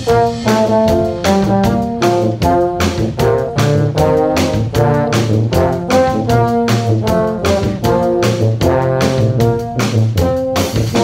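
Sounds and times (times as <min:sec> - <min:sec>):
drum kit beat: 0:00.0 - 0:11.0
tuba and low brass playing: 0:00.0 - 0:11.0.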